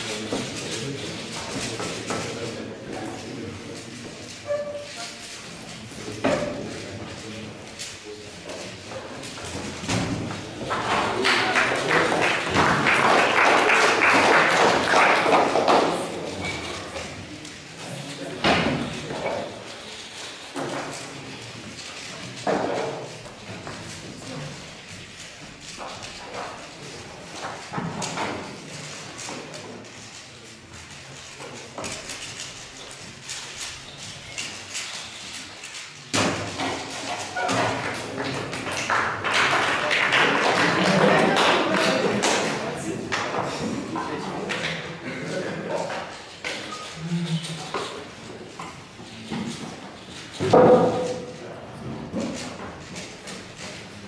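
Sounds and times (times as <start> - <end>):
murmur of voices: 0.0 - 54.0.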